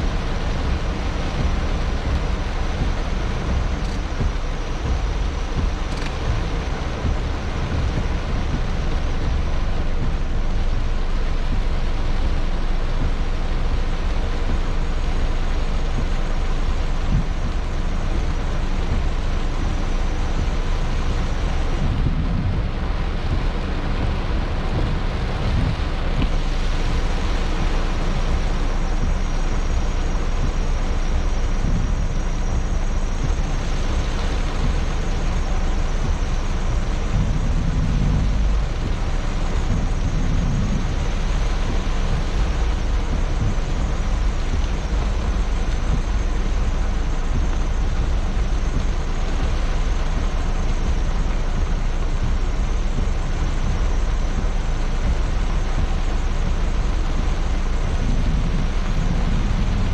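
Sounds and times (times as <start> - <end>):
heavy rain on car roof: 0.0 - 59.9
low vehicle rumble: 0.0 - 59.9.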